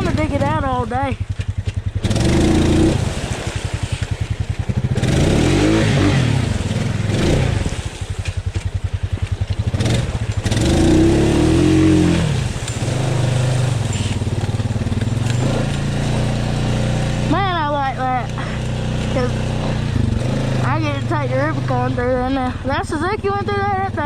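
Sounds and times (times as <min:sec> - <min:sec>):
atv engine idling and revving: 0:00.0 - 0:24.0.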